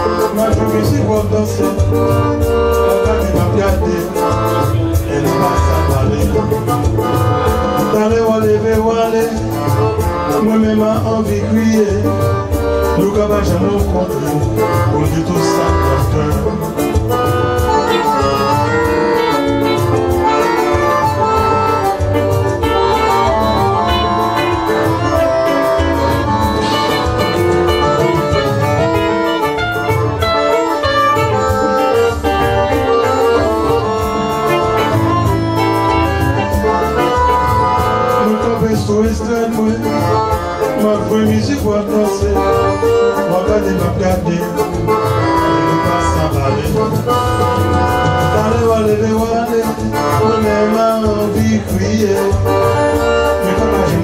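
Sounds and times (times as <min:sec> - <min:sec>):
backing music with pulsing bass: 0:00.0 - 0:54.0
electric guitar playing: 0:00.0 - 0:54.0.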